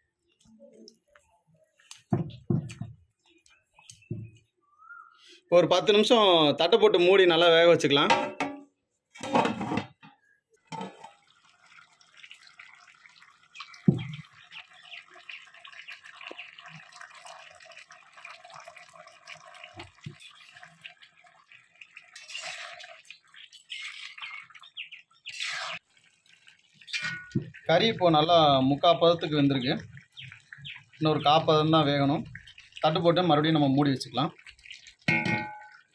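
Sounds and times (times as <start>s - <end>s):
curry bubbling and popping: 0.0s - 4.6s, 10.6s - 35.9s.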